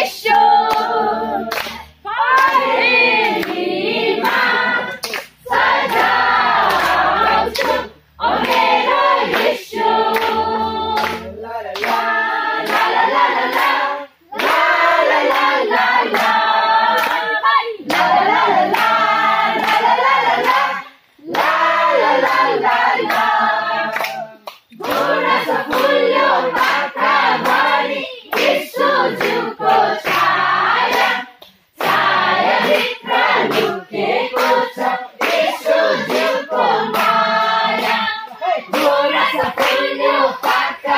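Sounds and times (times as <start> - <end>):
congregation singing: 0.0 - 40.9
rhythmic hand clapping: 0.0 - 40.9.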